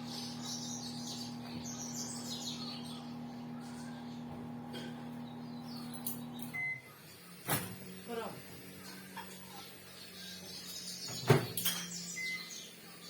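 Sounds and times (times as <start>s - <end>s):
birds chirping: 0.0s - 7.4s, 8.8s - 13.0s
microwave oven humming: 0.0s - 13.0s.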